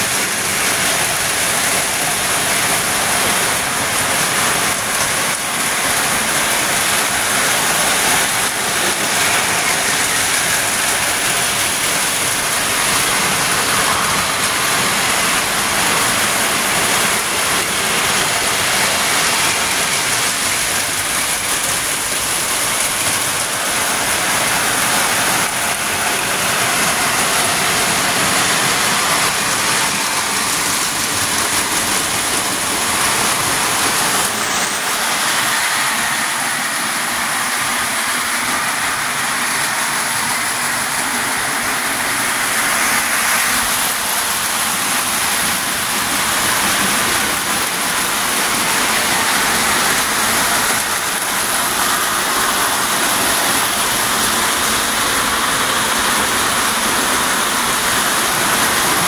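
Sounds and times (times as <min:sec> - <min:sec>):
toy train electric motors: 0:00.0 - 0:59.0
toy train wheels rolling on rails: 0:00.0 - 0:59.0.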